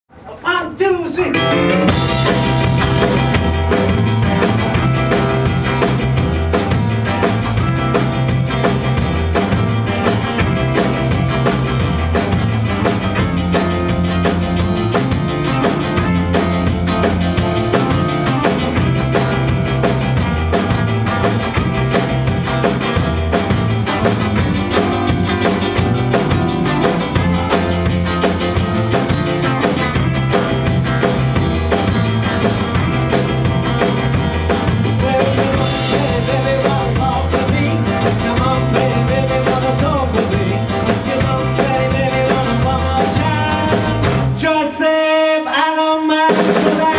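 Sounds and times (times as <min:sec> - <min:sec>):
rock band playing instrumental: 0:01.2 - 0:44.5, 0:46.2 - 0:46.9.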